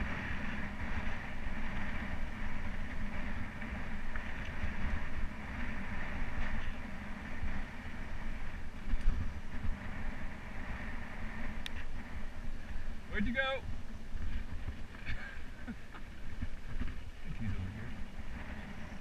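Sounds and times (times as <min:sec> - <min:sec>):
bike tyres rumbling on dirt: 0:00.0 - 0:19.0
wind noise on microphone: 0:00.0 - 0:19.0.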